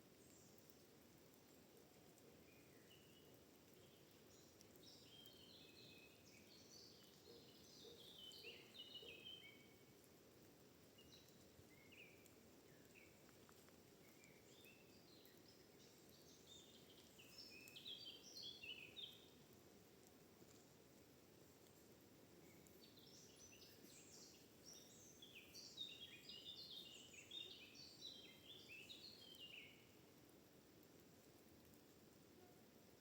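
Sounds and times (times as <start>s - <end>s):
faint songbird song: 0.0s - 33.0s
low background hiss: 0.0s - 33.0s.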